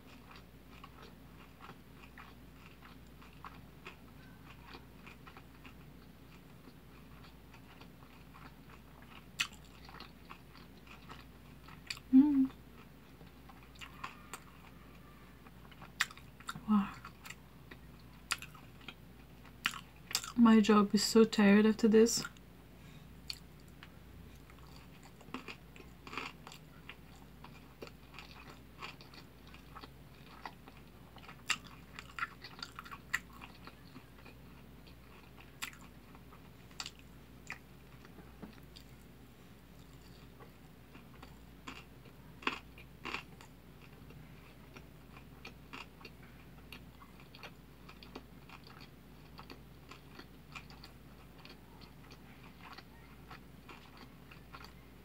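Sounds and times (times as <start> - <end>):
person chewing: 0.0 - 20.4, 23.2 - 54.8
faint steady hum: 0.0 - 55.0.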